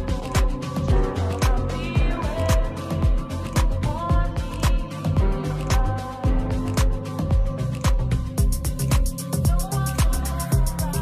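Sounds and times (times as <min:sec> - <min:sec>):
crisp hi-hats: 0:00.0 - 0:11.0
house music: 0:00.0 - 0:11.0
kick drum: 0:00.0 - 0:11.0.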